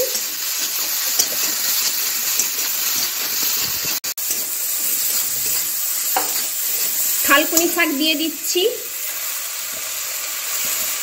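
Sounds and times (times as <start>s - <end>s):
spatula stirring in a pan: 0.0s - 8.1s, 8.9s - 11.0s
vegetables sizzling in oil: 0.0s - 11.0s.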